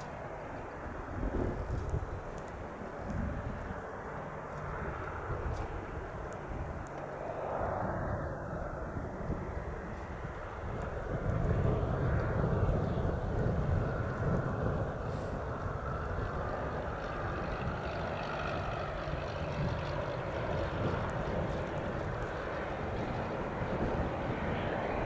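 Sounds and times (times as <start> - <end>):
light plane engine and propeller drone: 0.0 - 25.0.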